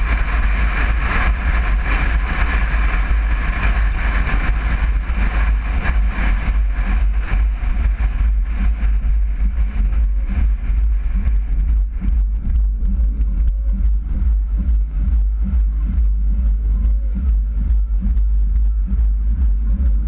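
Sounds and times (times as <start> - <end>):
road and wind noise: 0.0 - 20.0
vehicle low rumble: 0.0 - 20.0.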